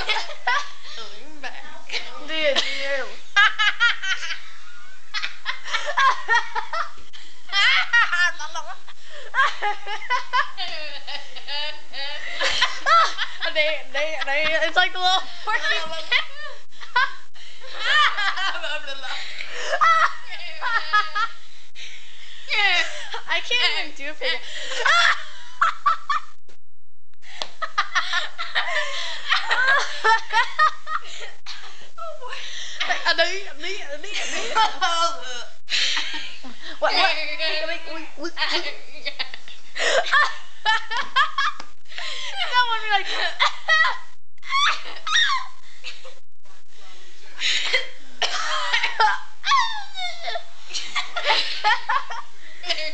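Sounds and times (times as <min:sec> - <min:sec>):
women laughing: 0:00.0 - 0:01.3, 0:01.9 - 0:21.3, 0:24.2 - 0:26.3, 0:27.6 - 0:33.4, 0:34.0 - 0:37.7, 0:38.3 - 0:46.2, 0:47.4 - 0:52.9.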